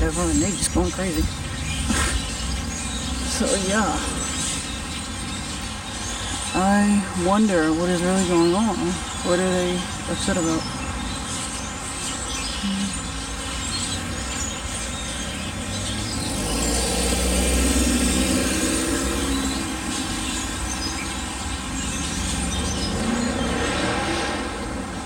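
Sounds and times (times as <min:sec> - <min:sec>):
flock of birds calling: 0:00.0 - 0:25.0.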